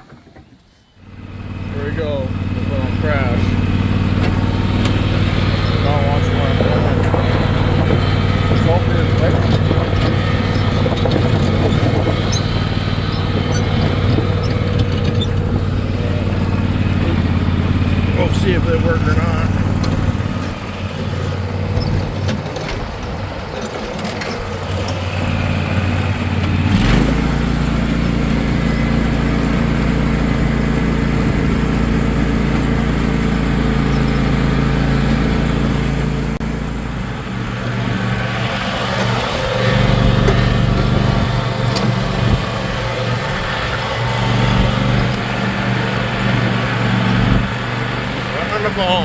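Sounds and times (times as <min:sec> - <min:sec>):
riding lawn mower engine running: 0:00.0 - 0:49.0.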